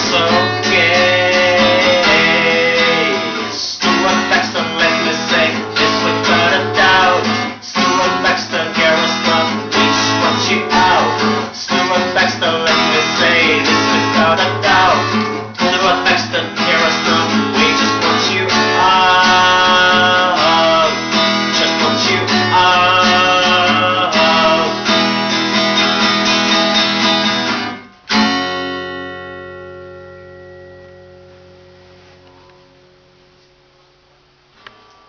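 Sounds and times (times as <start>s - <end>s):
acoustic guitar strumming: 0.0s - 33.9s.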